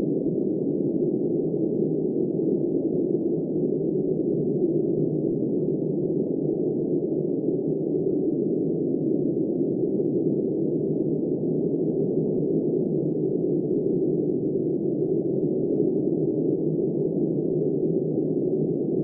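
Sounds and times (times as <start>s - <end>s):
muffled blizzard wind: 0.0s - 19.0s.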